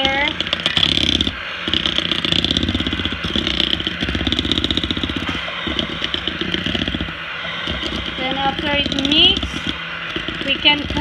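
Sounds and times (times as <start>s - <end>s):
electric hand mixer whirring: 0.0s - 11.0s.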